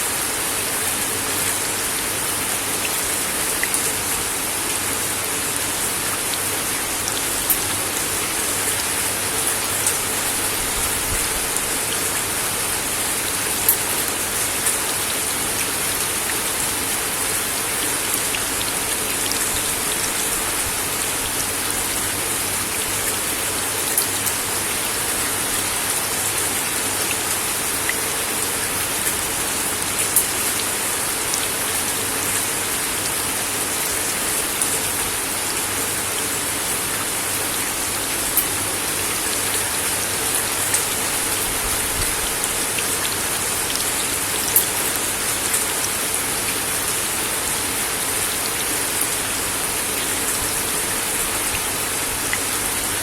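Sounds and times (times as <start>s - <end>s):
rain on wooden deck: 0.0s - 53.0s.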